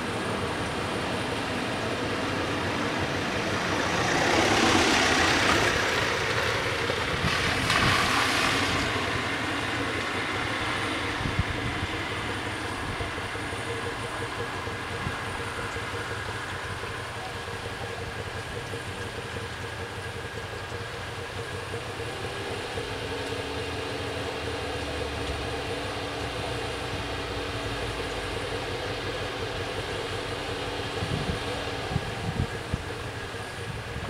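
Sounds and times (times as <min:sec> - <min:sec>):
diesel railcar engine drone: 0:00.0 - 0:34.0.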